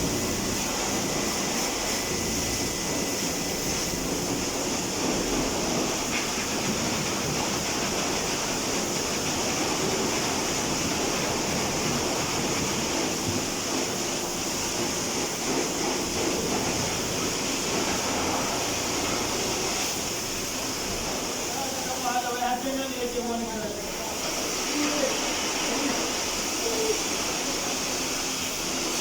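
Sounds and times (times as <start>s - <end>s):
water spraying onto car: 0.0s - 29.0s.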